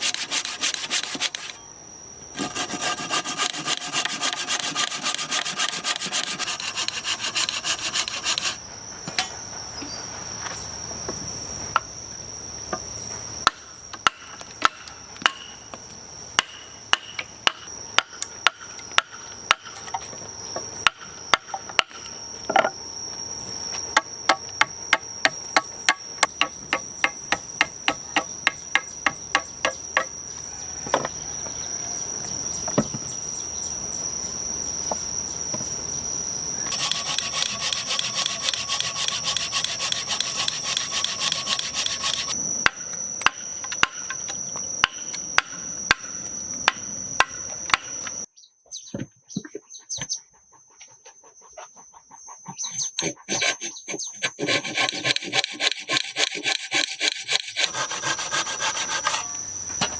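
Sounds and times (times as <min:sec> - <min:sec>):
high insect trill: 0:00.0 - 0:48.5, 0:50.4 - 0:59.9.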